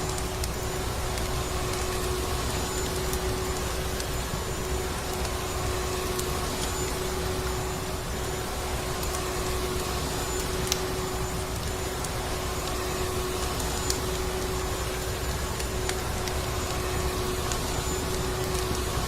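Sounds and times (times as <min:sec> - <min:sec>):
wood fire crackles: 0:00.0 - 0:19.0.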